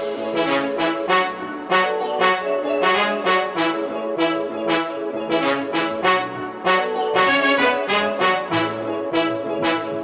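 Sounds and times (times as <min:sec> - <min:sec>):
brass background music: 0:00.0 - 0:10.0.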